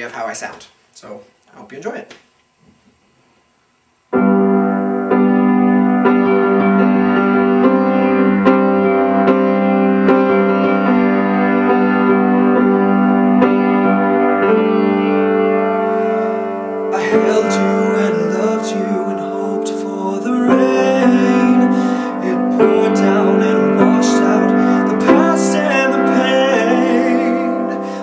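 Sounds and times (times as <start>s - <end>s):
piano chords: 4.1s - 28.0s.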